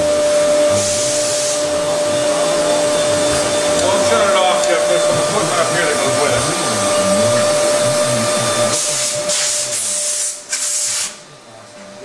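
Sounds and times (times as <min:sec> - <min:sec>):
rushing air hiss: 0:00.0 - 0:04.3, 0:04.9 - 0:11.2
vacuum system whine: 0:00.0 - 0:12.0.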